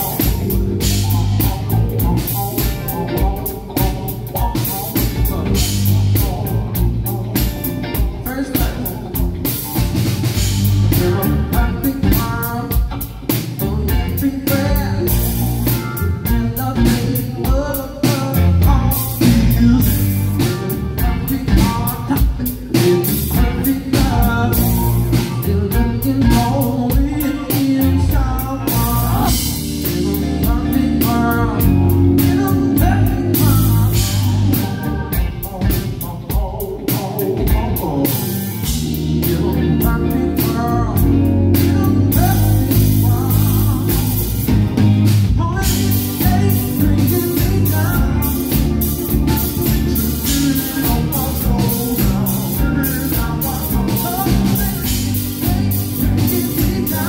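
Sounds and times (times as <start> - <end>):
drum kit beat: 0.0 - 57.0
electric guitars: 0.0 - 57.0
keyboard: 0.0 - 57.0
man singing: 0.0 - 57.0.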